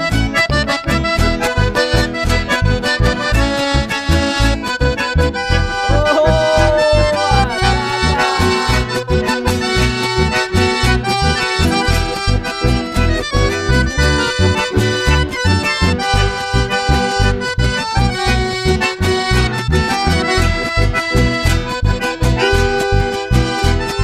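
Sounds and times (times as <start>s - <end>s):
pulsing bass beat: 0.0s - 23.9s
accordion-led band music: 0.0s - 24.0s.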